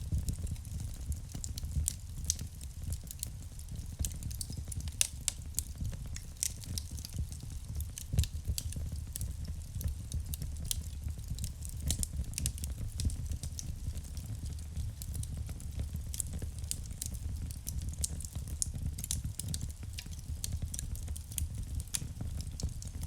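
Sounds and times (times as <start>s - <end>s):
fire pops and snaps: 0.0s - 23.0s
low rumble of burning: 0.0s - 23.0s.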